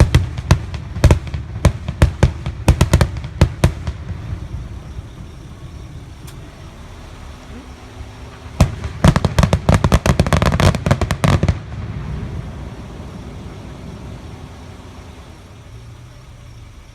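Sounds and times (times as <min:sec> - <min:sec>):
firecrackers banging: 0:00.0 - 0:15.8
low steady rumble: 0:00.0 - 0:16.9.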